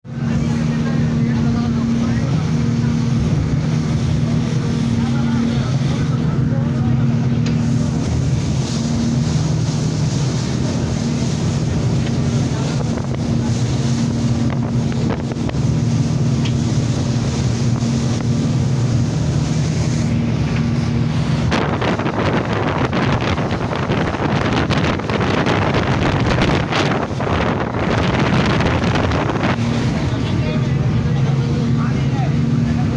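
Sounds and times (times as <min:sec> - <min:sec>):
speedboat engine running: 0:00.0 - 0:32.9.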